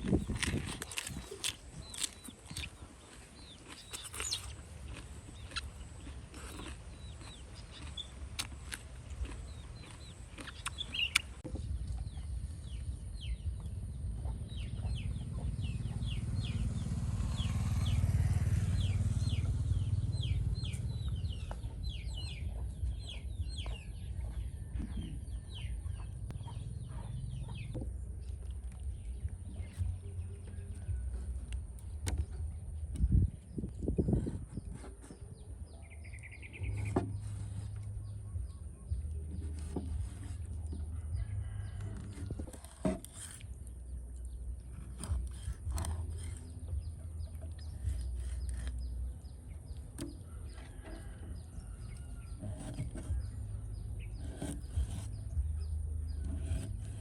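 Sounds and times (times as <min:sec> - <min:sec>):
low rumble: 0:11.4 - 0:57.0.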